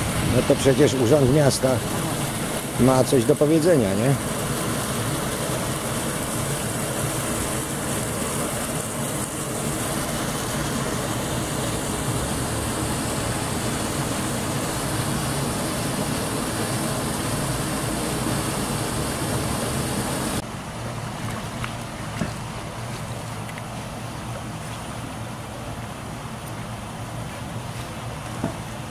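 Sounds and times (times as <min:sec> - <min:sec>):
engine running steadily: 0:00.0 - 0:28.9.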